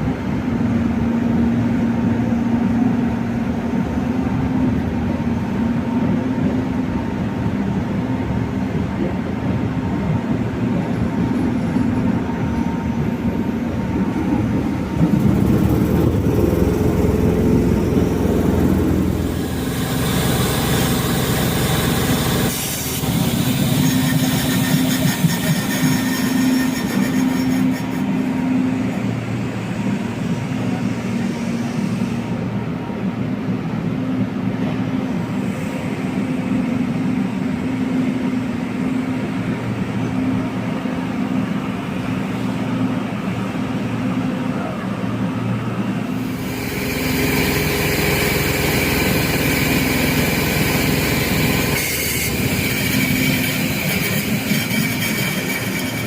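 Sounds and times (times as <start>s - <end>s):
train hissing and rattling: 9.1s - 32.8s, 34.6s - 56.0s.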